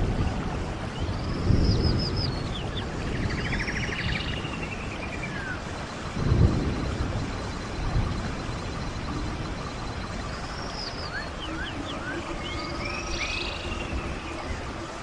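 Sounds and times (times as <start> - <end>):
stream water rushing: 0.0 - 15.0
small birds singing: 0.8 - 15.0.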